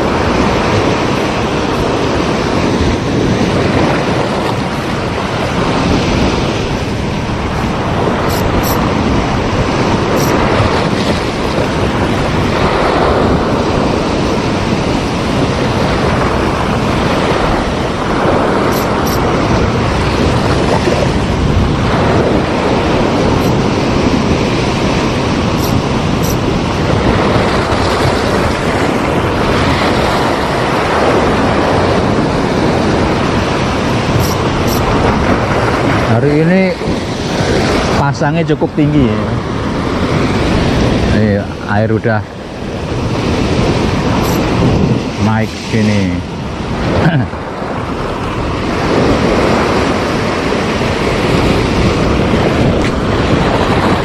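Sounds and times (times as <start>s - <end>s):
sea waves washing on shore: 0.0s - 54.0s
wind buffeting microphone: 0.0s - 54.0s.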